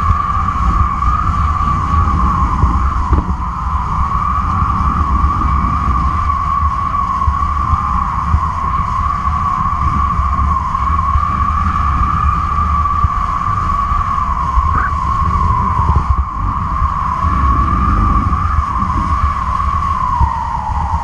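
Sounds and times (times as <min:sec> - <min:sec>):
kite line humming: 0:00.0 - 0:21.0
wind buffeting microphone: 0:00.0 - 0:21.0.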